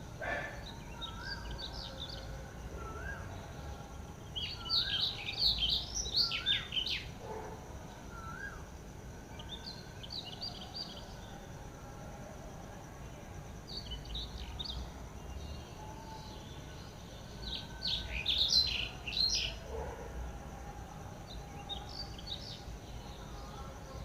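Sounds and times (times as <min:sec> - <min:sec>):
wild birds chirping: 0:00.0 - 0:12.0, 0:13.5 - 0:24.0.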